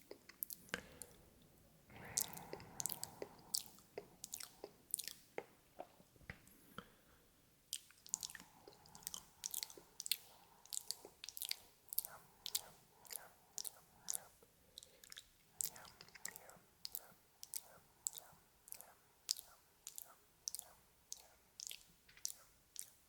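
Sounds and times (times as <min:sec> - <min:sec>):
wet mouth clicks and smacks: 0:00.0 - 0:01.2, 0:01.9 - 0:06.5, 0:07.7 - 0:23.0.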